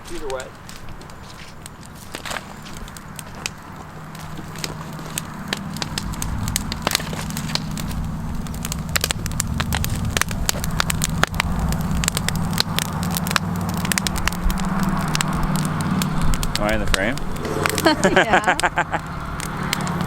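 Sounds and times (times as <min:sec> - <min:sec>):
sharp crackling clicks: 0:00.1 - 0:20.0
diesel tractor engine running: 0:00.5 - 0:20.0.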